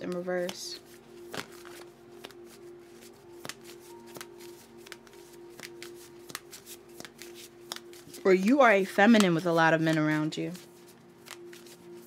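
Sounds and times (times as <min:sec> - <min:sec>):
cards shuffling: 0:00.0 - 0:12.0
soft background music: 0:00.0 - 0:12.0.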